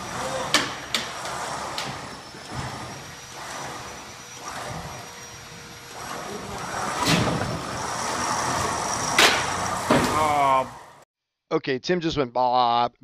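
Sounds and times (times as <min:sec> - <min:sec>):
dolly rolling on steel deck: 0:00.0 - 0:11.0.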